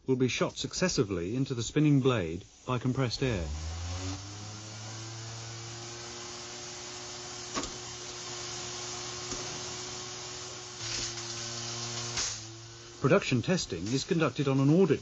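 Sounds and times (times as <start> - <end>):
electric mower motor humming: 2.5 - 15.0.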